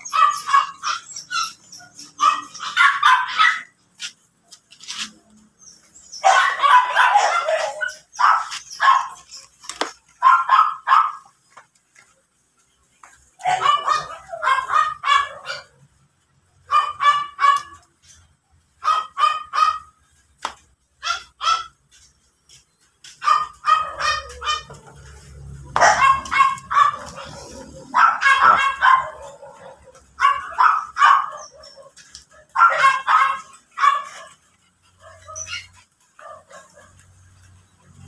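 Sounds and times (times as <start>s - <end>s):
dog yipping: 0.0s - 4.2s, 4.8s - 11.3s, 13.4s - 15.8s, 16.6s - 18.2s, 18.8s - 20.0s, 21.0s - 21.8s, 23.2s - 37.0s.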